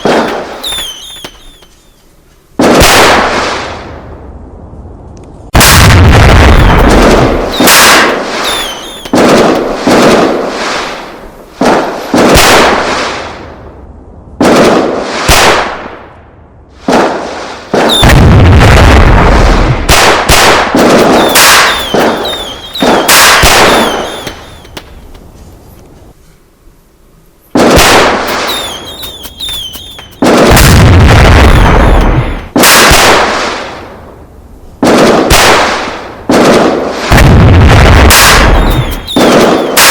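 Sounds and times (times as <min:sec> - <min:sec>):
fireworks bangs: 0:00.0 - 0:04.1, 0:05.5 - 0:13.7, 0:14.4 - 0:16.1, 0:16.8 - 0:25.4, 0:27.5 - 0:39.9.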